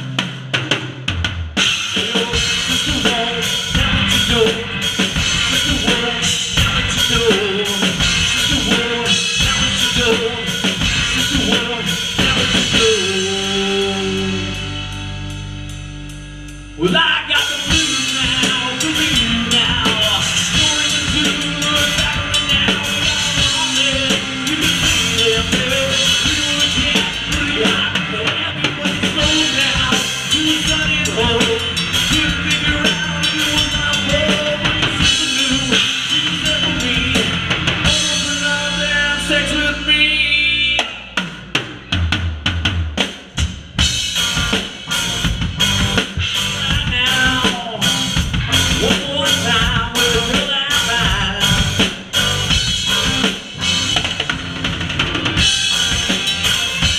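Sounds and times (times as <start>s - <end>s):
bass guitar: 0.0s - 56.9s
rock band playing live: 0.0s - 56.9s.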